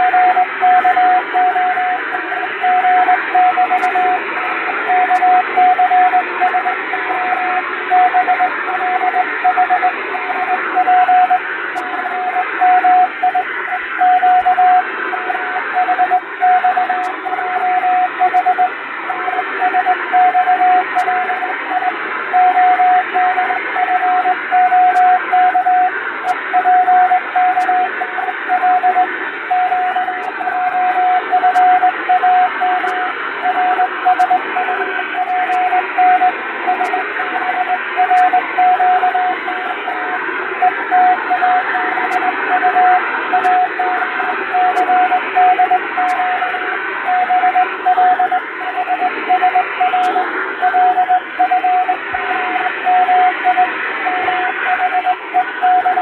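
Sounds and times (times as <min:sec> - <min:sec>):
morse code beeping: 0:00.0 - 0:25.9, 0:26.6 - 0:43.8, 0:44.6 - 0:52.0
radio static hiss: 0:00.0 - 0:56.0.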